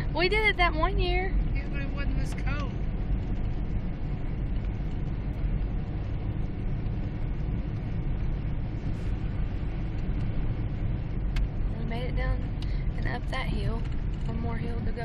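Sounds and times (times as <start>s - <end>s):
car driving through deep snow: 0.0s - 15.0s.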